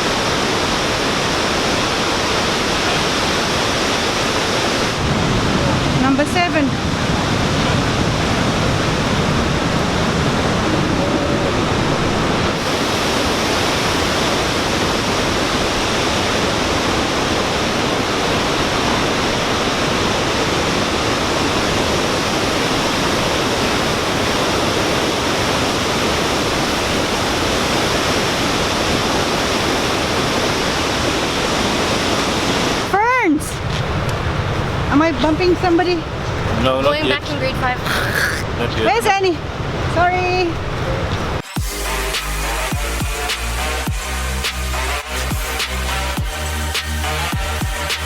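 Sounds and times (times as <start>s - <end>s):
waterfall rushing: 0.0s - 33.1s, 41.3s - 48.0s.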